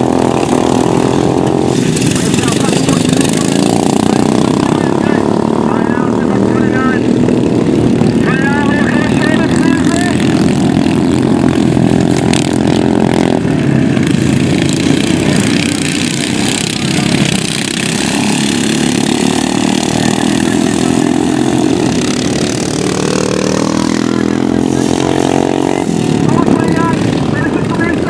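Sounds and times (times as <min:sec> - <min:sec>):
lawn mower engines racing: 0:00.0 - 0:28.0.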